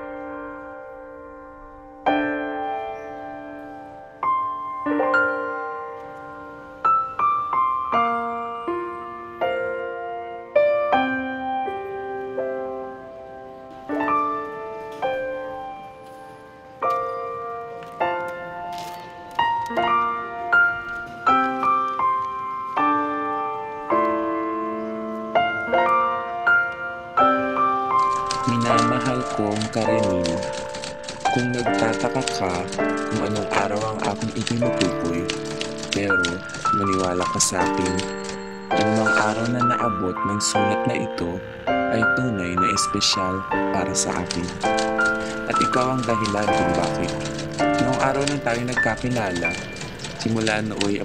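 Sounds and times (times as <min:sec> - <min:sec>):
slow gentle piano music: 0:00.0 - 0:51.0.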